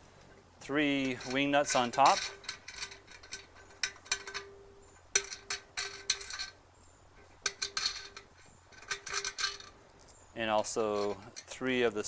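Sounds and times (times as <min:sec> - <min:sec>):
faint steady hum: 0:00.0 - 0:12.0
metal wing nuts clinking: 0:00.8 - 0:12.0.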